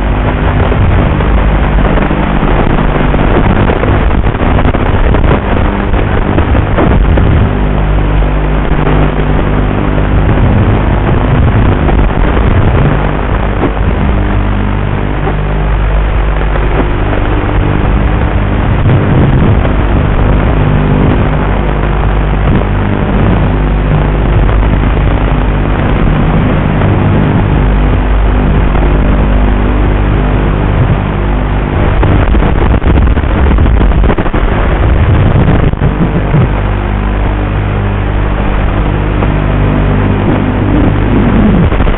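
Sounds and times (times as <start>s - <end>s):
drone propellers rushing: 0.0s - 41.9s
low motor hum: 0.0s - 41.9s.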